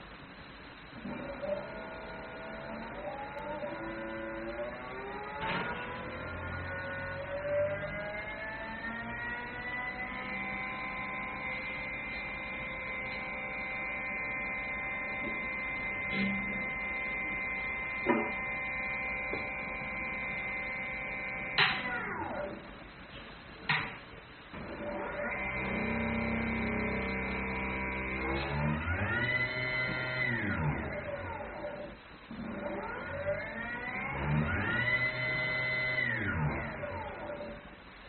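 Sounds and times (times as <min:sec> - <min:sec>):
mixer motor whine: 0:00.0 - 0:23.0, 0:24.5 - 0:37.9.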